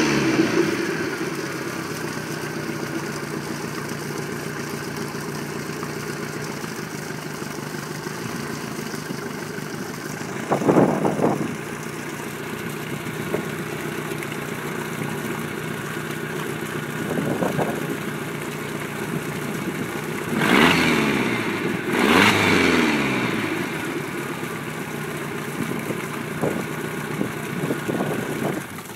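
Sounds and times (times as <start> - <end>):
boat engine idling and revving: 0.0 - 28.9.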